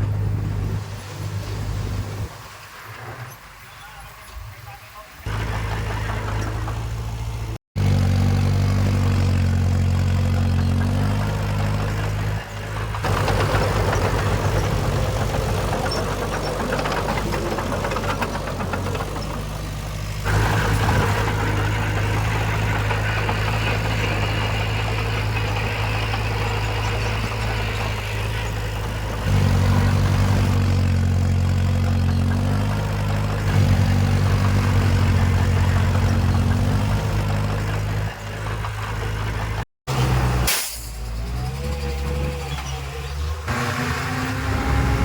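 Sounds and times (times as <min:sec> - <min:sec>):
heavy machinery diesel engines: 0:00.0 - 0:45.0.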